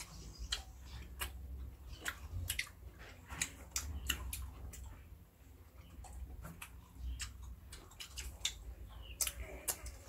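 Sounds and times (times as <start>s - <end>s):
fruit being chewed and sucked: 0.0s - 10.0s.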